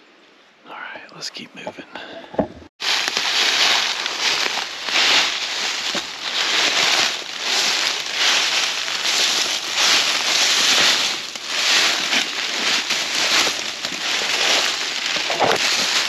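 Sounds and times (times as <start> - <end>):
footsteps crunching through leaves: 2.8 - 16.0.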